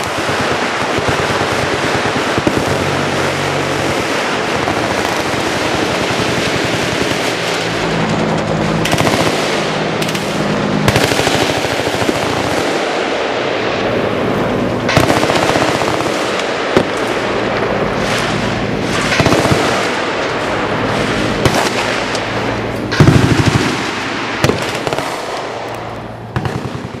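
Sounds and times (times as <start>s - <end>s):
automatic machine gun fire: 0.0s - 13.1s, 14.9s - 17.2s, 18.0s - 20.2s, 20.8s - 22.1s, 22.9s - 25.5s, 26.3s - 27.0s.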